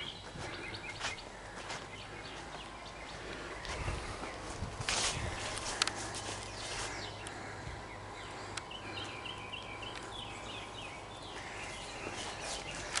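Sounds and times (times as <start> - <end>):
bird chirping: 0.0 - 13.0
outdoor background noise: 0.0 - 13.0.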